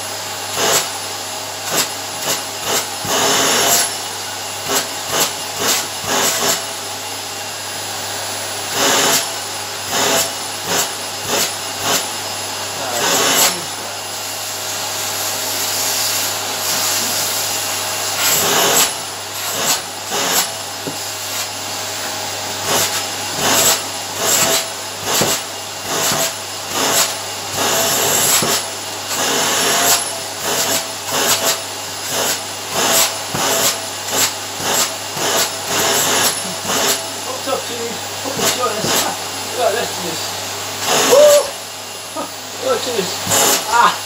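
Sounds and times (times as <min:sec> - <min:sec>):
vacuum cleaner on carpet: 0:00.0 - 0:44.0.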